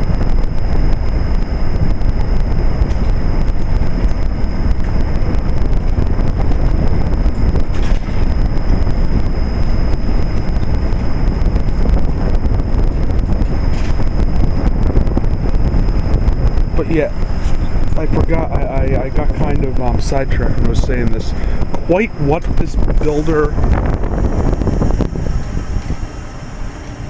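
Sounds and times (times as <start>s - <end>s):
heat pump low rush: 0.0s - 27.0s
thin high whine: 0.0s - 27.0s.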